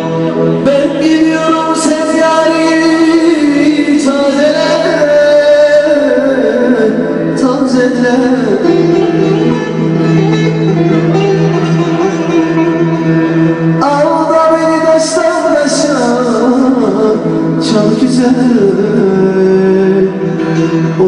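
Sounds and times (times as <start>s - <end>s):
man singing long held notes: 0.0s - 9.8s, 13.7s - 21.0s
lute with low drone: 0.0s - 21.0s.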